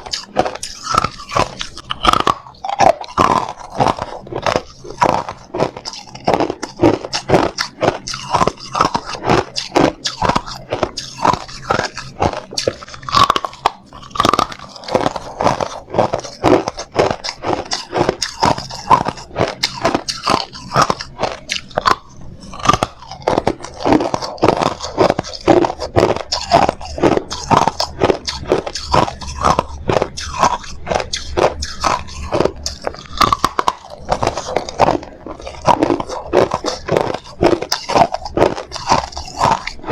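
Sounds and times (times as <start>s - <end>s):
ice crunching in mouth: 0.0s - 39.9s.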